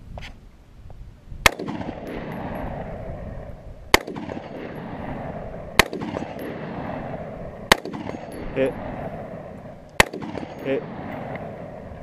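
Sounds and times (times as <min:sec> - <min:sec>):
rifle shots with echo: 0:01.4 - 0:12.0.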